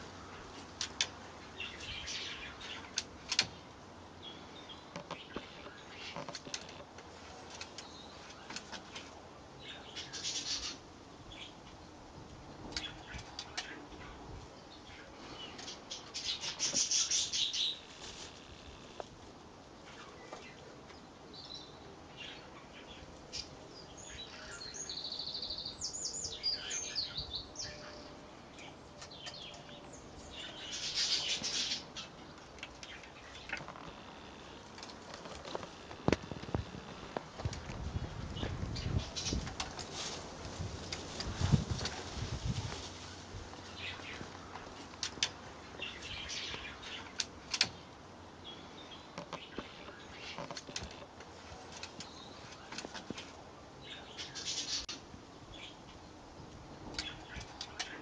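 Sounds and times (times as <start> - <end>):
faint steady background noise: 0.0 - 58.0.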